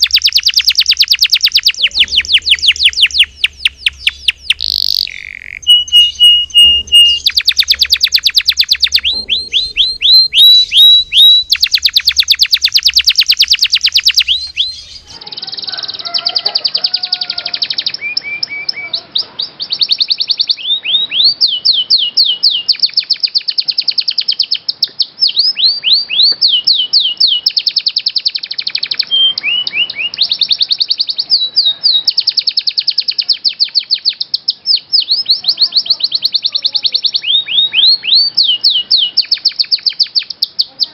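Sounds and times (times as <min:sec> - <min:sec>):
canaries singing trills: 0:00.0 - 0:40.9.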